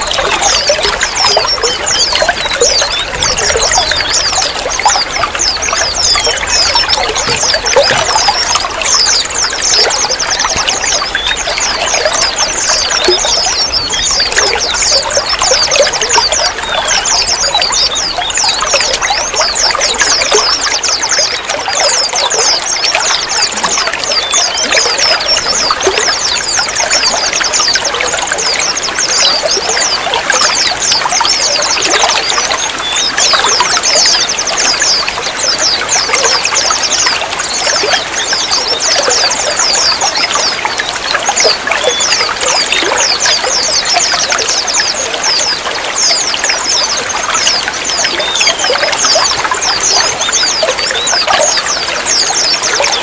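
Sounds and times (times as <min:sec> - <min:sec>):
high-pitched bubbling plinks: 0:00.0 - 0:53.0
water trickling and splashing: 0:00.0 - 0:53.0.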